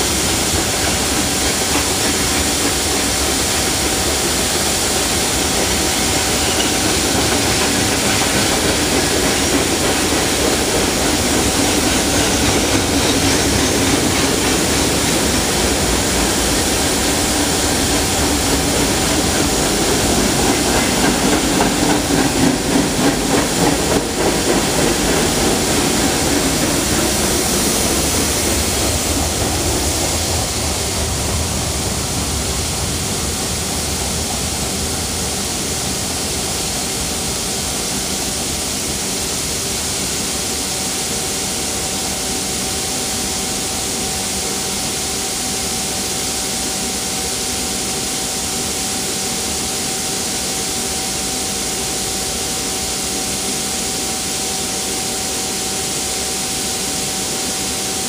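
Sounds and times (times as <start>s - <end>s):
freight train wheels rolling on rails: 0.0s - 58.0s.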